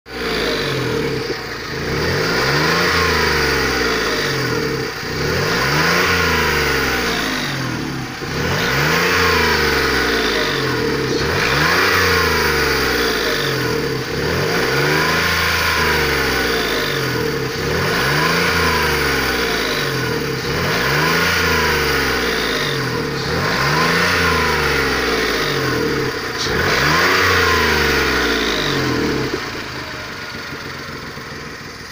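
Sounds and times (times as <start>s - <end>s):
car engine revving: 0.1s - 31.9s.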